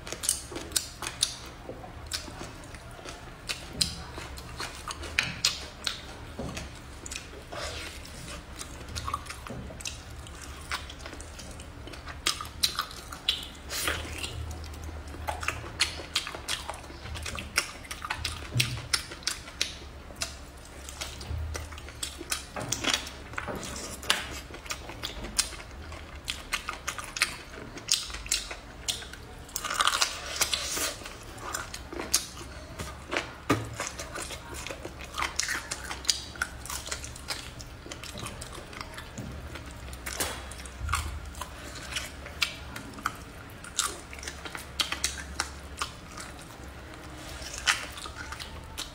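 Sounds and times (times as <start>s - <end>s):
person chewing: 0.0s - 48.9s.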